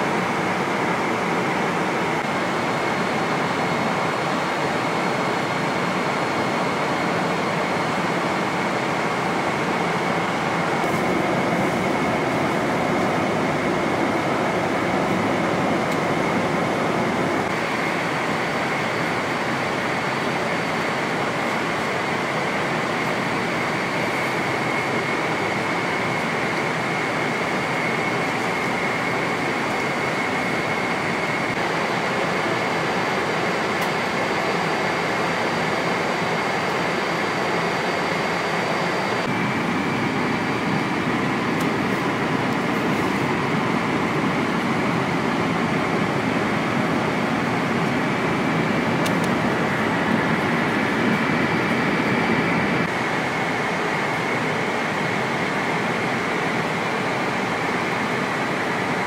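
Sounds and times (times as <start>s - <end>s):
airplane cabin noise: 0.0s - 59.0s.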